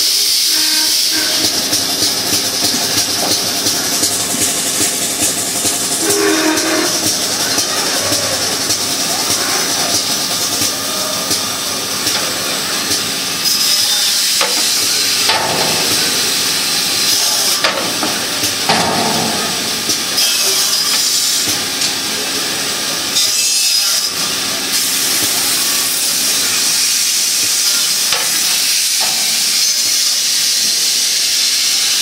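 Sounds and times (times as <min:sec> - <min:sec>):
band saw cutting metal: 0:00.2 - 0:30.9.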